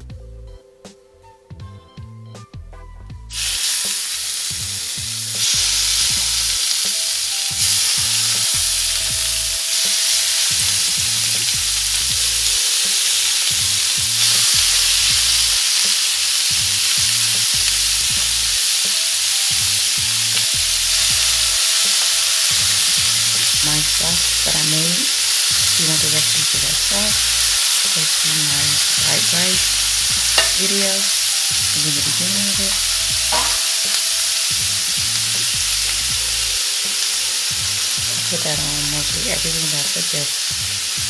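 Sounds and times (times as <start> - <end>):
meat sizzling on a griddle: 3.4 - 41.0.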